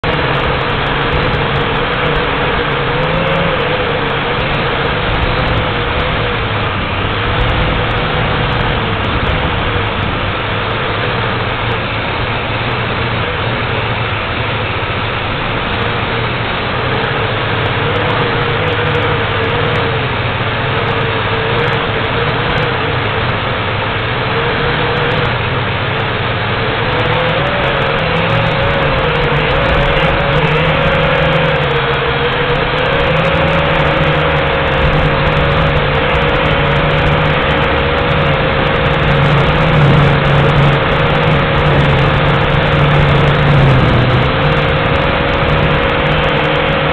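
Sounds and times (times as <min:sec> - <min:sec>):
drone propellers whirring: 0:00.0 - 0:46.9
wind buffeting microphone: 0:00.0 - 0:46.9.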